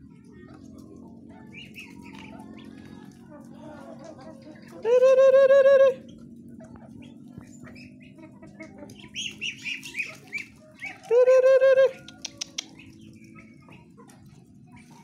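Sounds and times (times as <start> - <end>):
poultry peeping: 0.0 - 15.0.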